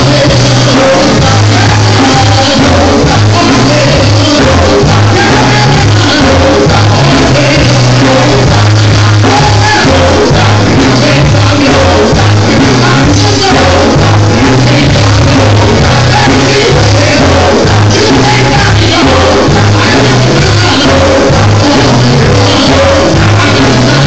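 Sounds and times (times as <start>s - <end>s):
gospel band playing: 0.0s - 24.0s
men singing and shouting: 0.0s - 24.0s.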